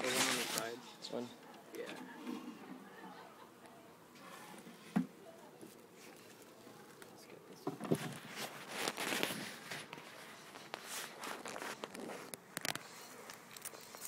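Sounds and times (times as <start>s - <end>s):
rustling and scraping: 0.0s - 2.9s, 4.2s - 14.0s.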